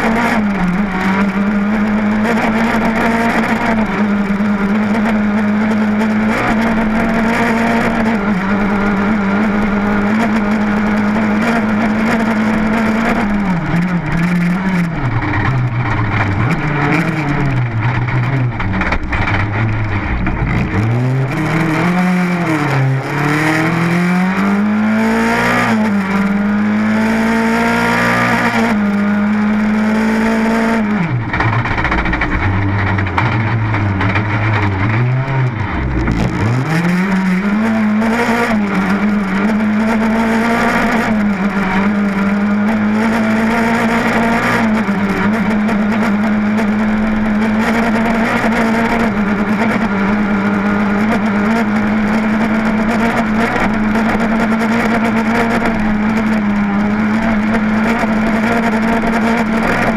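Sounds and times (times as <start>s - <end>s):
rally car engine revving: 0.0s - 59.9s
road and tyre noise: 0.0s - 59.9s.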